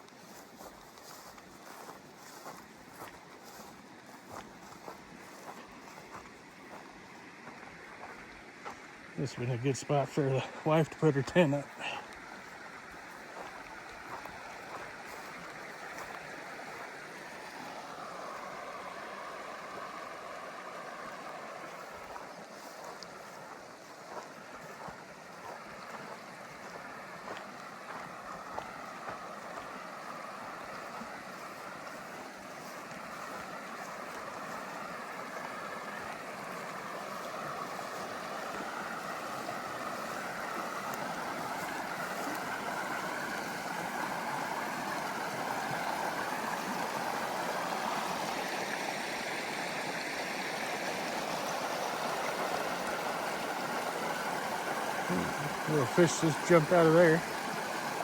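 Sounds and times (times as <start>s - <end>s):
creek water running: 0.0s - 58.0s.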